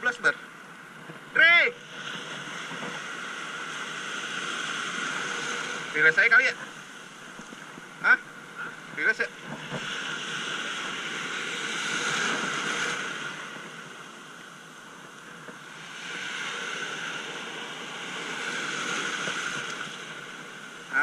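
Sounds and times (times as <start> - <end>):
sea water washing in shallows: 0.0 - 21.0.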